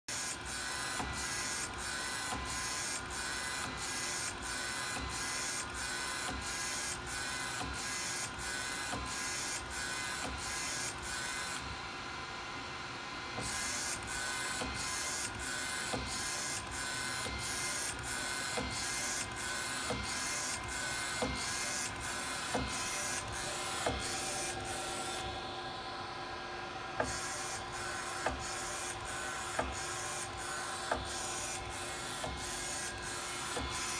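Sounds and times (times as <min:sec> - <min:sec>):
printer carriage sweeping with hiss: 0:00.1 - 0:11.6, 0:13.4 - 0:25.4, 0:27.0 - 0:33.9
steady motor hum: 0:00.1 - 0:33.9.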